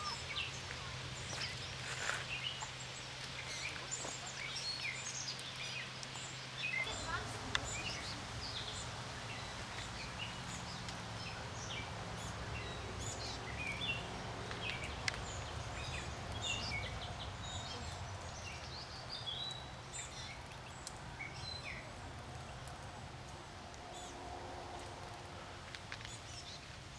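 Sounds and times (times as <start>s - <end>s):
small birds chirping: 0.0s - 25.2s, 25.9s - 26.9s.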